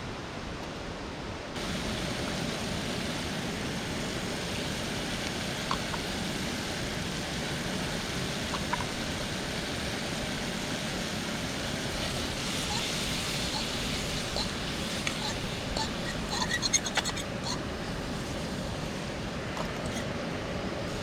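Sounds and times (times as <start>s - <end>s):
steady rushing noise: 1.3s - 21.0s.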